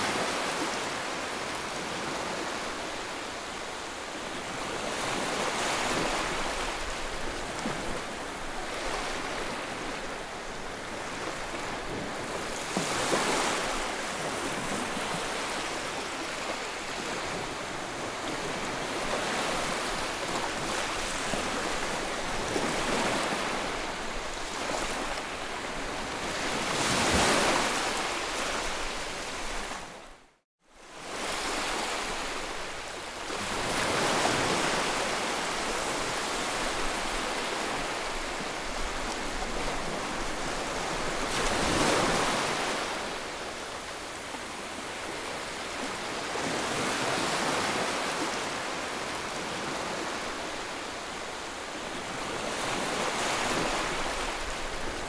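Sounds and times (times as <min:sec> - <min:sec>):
waves breaking and washing in: 0:00.0 - 0:55.0.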